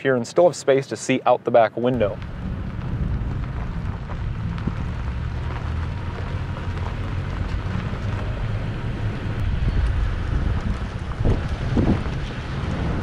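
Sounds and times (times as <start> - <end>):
road and engine rumble: 0.0 - 13.0
wind rushing over microphone: 1.9 - 13.0.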